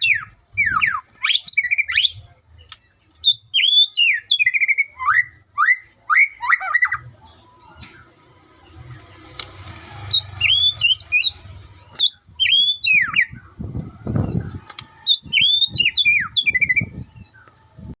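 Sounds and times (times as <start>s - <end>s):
songbird whistling: 0.0s - 2.3s, 3.2s - 8.1s, 10.1s - 17.6s.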